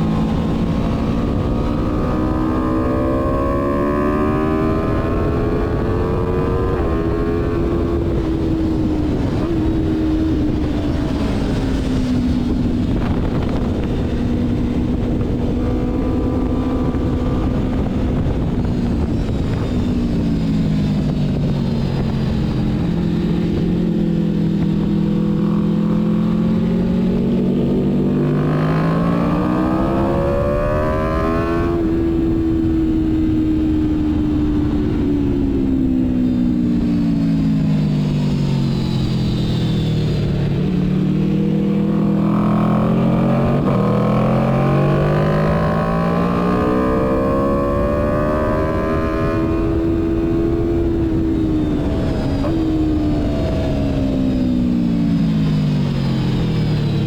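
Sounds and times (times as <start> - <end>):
motorcycle engine shifting gears: 0.0 - 57.0
wind rush: 0.0 - 57.0.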